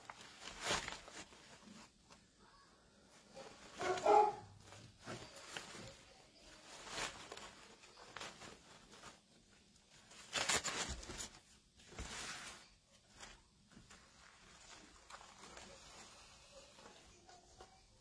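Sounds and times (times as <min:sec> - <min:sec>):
fabric and ribbon rustling: 0:00.0 - 0:18.0.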